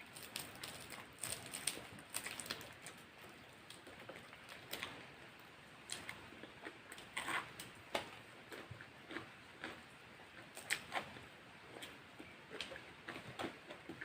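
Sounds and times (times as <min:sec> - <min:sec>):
person chewing food: 0:00.0 - 0:05.1, 0:05.9 - 0:14.0.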